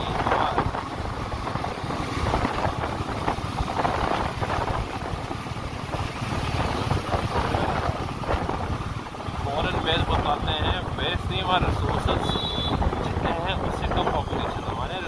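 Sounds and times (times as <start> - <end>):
motorcycle engine running: 0.0 - 14.0
wind buffeting microphone: 0.0 - 15.0.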